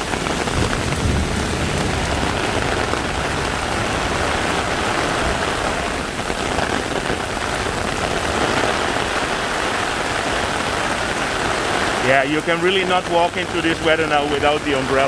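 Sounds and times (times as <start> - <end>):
heavy rain on street: 0.0 - 15.0
rain drumming on umbrella: 0.0 - 15.0.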